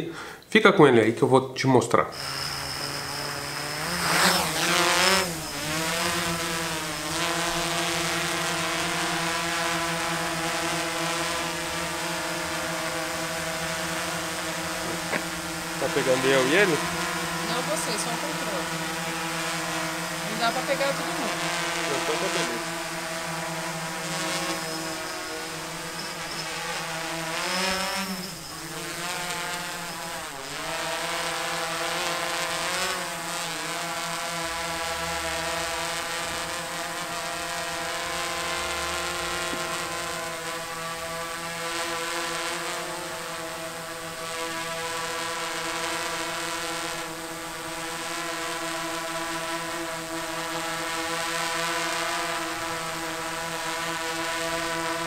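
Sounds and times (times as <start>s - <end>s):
quadcopter motors buzzing: 2.0s - 55.0s.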